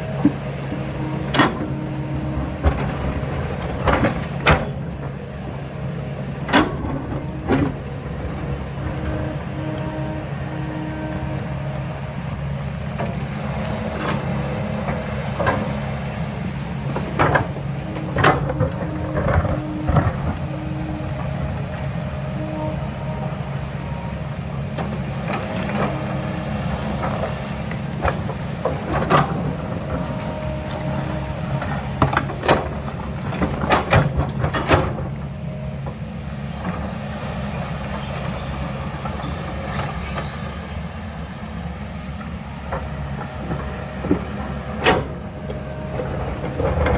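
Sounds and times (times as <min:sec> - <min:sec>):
diesel engine running: 0:00.0 - 0:46.9
digging equipment clanking: 0:00.0 - 0:46.9.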